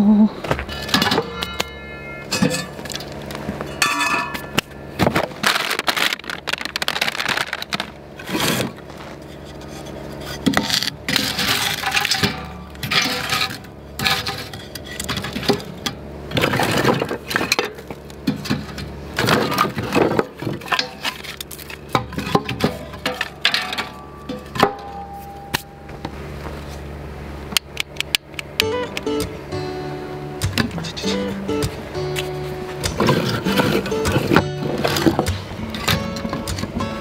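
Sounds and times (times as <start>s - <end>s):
wooden sticks knocking and clattering: 2.3s - 25.7s, 30.4s - 36.8s.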